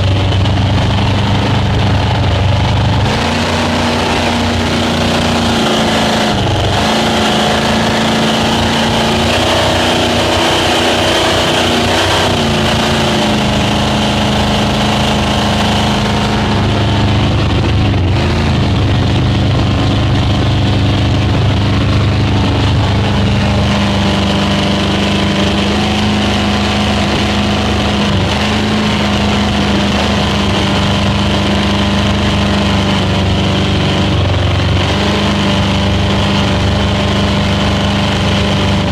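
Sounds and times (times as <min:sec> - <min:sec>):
rush of noise: 0:00.0 - 0:38.9
speedboat engine running: 0:00.0 - 0:38.9.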